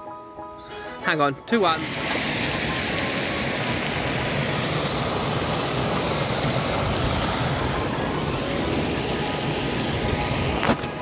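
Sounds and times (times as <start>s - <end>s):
steady rushing noise: 1.8s - 11.0s.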